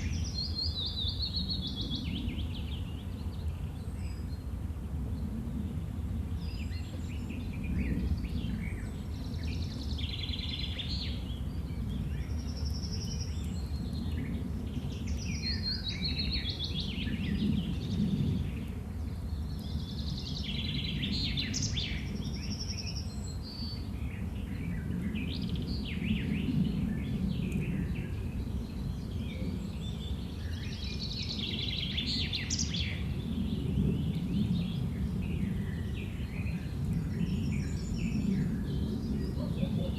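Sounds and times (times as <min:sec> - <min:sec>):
low rumble of countryside ambience: 0:00.0 - 0:39.9
songbirds singing and chirping: 0:00.0 - 0:39.9.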